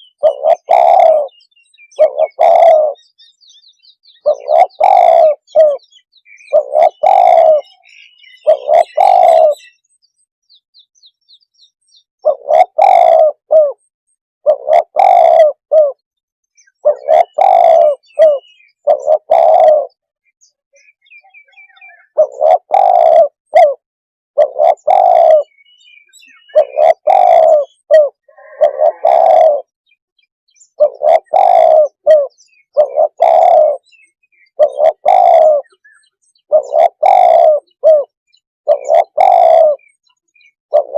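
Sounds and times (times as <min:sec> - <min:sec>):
dove cooing: 0:00.0 - 0:03.2, 0:04.1 - 0:09.8, 0:12.2 - 0:16.0, 0:16.6 - 0:20.0, 0:21.3 - 0:23.8, 0:24.4 - 0:29.7, 0:30.7 - 0:40.9
small birds chirping: 0:00.0 - 0:23.8, 0:24.4 - 0:40.9.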